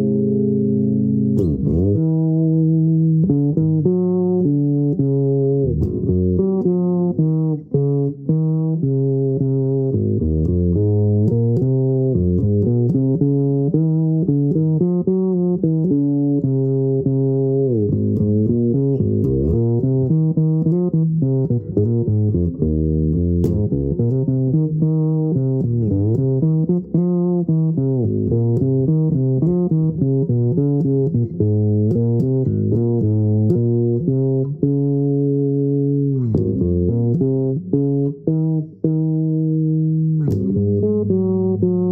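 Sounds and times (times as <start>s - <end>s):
fretless electric bass: 0.0s - 41.9s.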